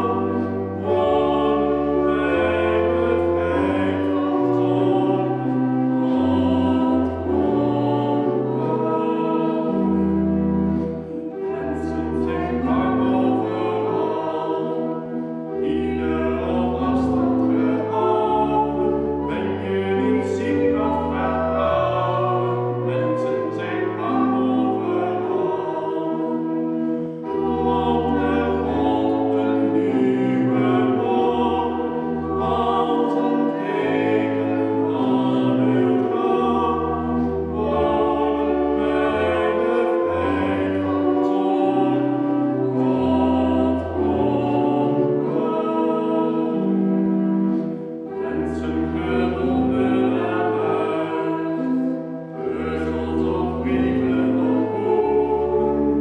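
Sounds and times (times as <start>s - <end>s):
pipe organ chords: 0.0s - 56.0s.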